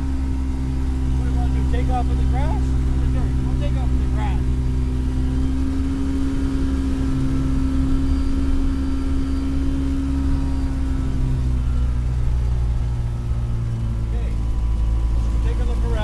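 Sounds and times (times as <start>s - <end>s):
light aircraft engine running: 0.0s - 16.0s.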